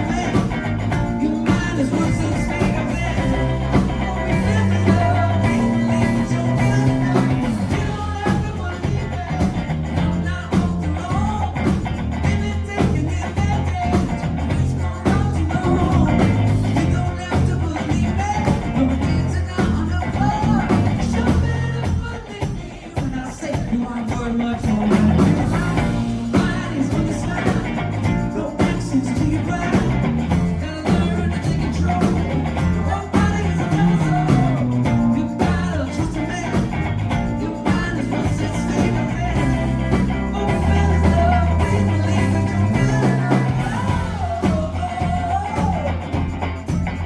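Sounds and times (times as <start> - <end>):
bass line: 0.0 - 22.1, 24.6 - 47.0
live pop-rock band playing: 0.0 - 47.0
steady drum beat: 0.0 - 47.0.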